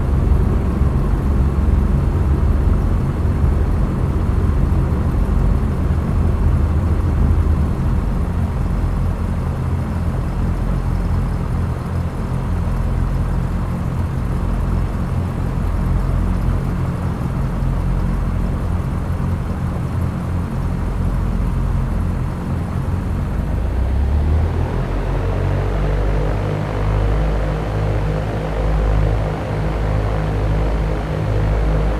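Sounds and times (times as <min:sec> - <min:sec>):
propeller airplane engine droning: 0:00.0 - 0:31.9.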